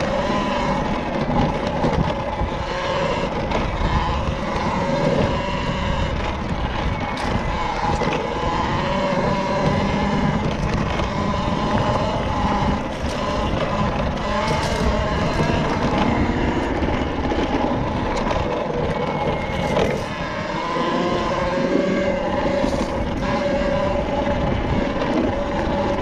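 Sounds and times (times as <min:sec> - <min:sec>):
electric motor whining: 0:00.0 - 0:26.0
tyre and wind noise: 0:00.0 - 0:26.0.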